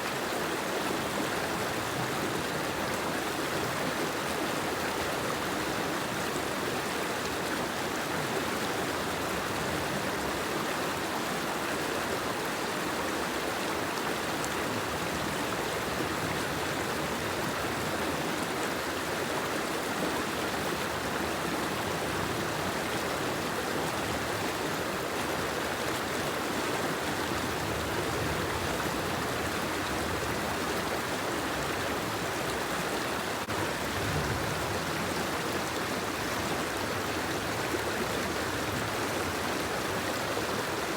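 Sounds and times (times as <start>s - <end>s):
steady water noise: 0.0s - 40.9s.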